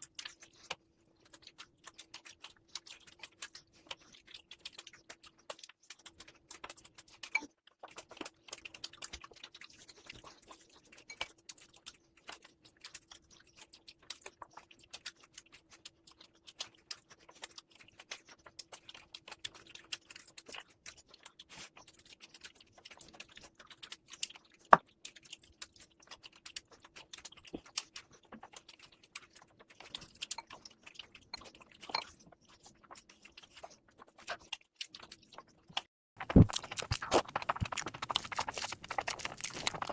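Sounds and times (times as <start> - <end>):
person chewing with wet clicks: 0.0 - 39.9.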